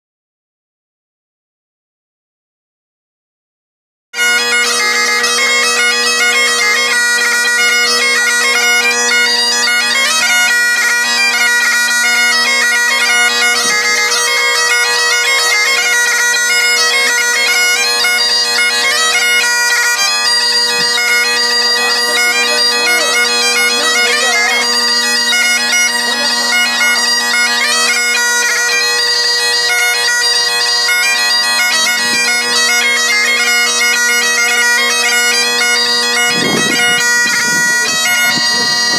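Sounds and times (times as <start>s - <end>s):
bagpipe melody with drones: 4.2s - 38.9s.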